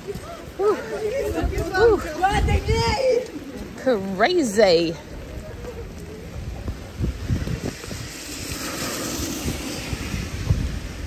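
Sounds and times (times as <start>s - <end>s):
faint hiss of wind or rain: 0.0s - 11.0s
wind buffeting microphone: 0.0s - 11.0s.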